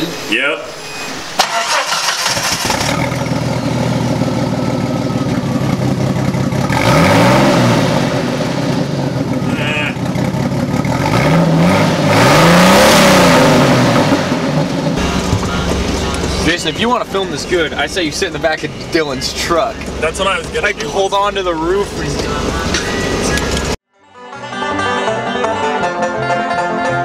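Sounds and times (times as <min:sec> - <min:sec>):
car engine starting and idling: 0:00.0 - 0:23.8
engine revving: 0:00.9 - 0:23.8.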